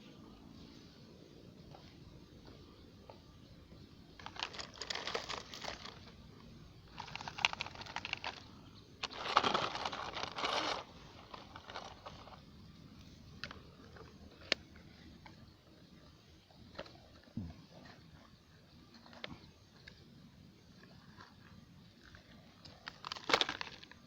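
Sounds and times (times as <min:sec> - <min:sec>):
loose soil crunching and trickling: 0:04.1 - 0:06.2, 0:06.8 - 0:24.0.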